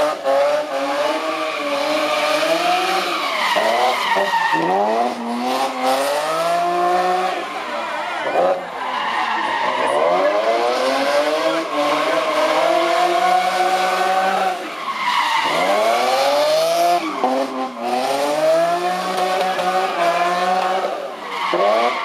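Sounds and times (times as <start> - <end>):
car engine revving hard: 0.0 - 8.7, 9.6 - 14.7, 15.3 - 22.0
tyres skidding and squealing: 0.0 - 22.0.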